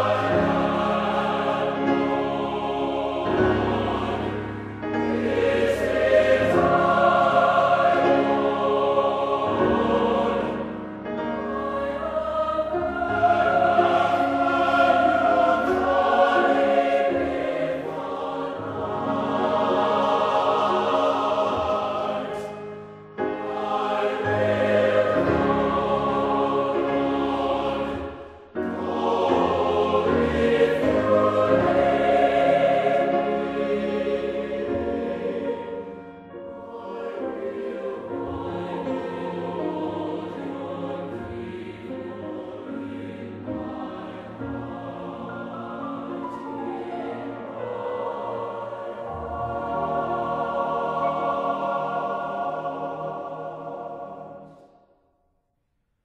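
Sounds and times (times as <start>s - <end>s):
choir singing held chords: 0.0s - 54.9s.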